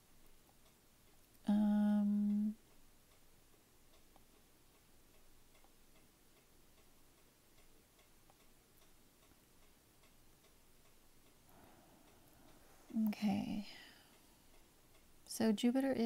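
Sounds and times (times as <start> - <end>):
faint even ticking: 0.0 - 16.0.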